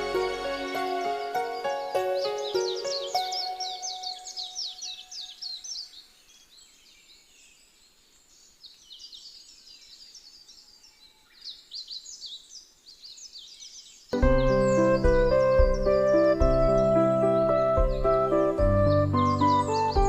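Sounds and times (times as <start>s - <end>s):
small songbirds chirping: 0.0s - 20.0s.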